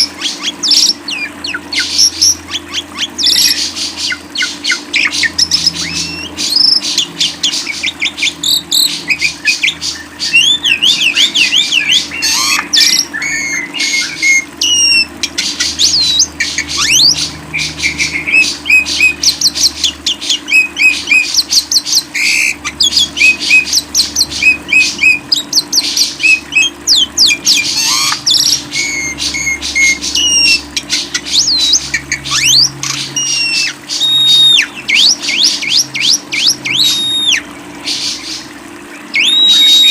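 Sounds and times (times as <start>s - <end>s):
faint steady hum: 0.0s - 39.9s
songbird singing trills: 0.0s - 39.9s.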